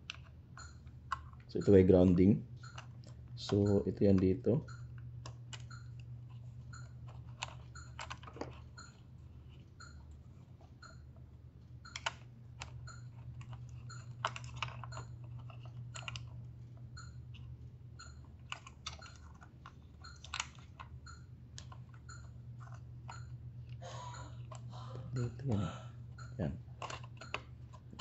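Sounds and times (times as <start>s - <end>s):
fingers tapping plastic housing: 0.0s - 10.0s, 11.8s - 28.0s
steady low hum: 0.0s - 28.0s.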